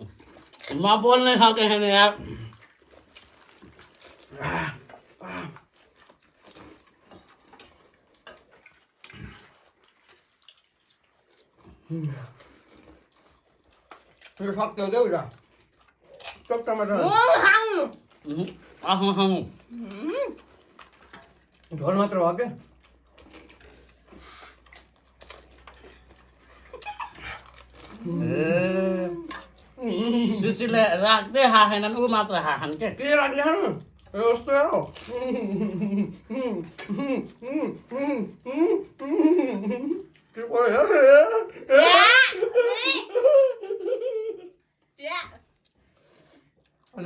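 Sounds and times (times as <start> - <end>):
people chewing and crunching: 0.0 - 47.0.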